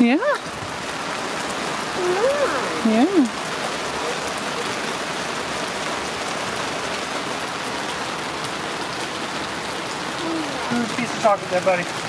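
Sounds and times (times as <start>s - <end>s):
raindrops ticking close by: 0.0s - 12.0s
steady rain hiss: 0.0s - 12.0s.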